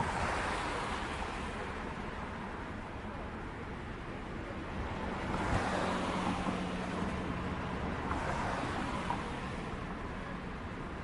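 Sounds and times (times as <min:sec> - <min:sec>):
street traffic rushing: 0:00.0 - 0:11.0.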